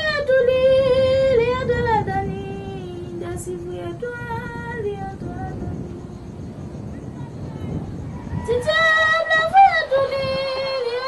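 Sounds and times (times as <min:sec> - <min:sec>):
person singing unaccompanied: 0:00.0 - 0:06.4, 0:08.4 - 0:11.0.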